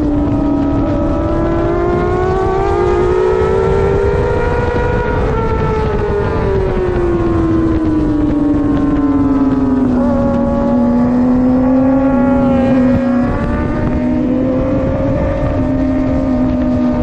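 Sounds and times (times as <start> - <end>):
motorcycle engine revving high: 0.0 - 17.0
wind rush: 0.0 - 17.0.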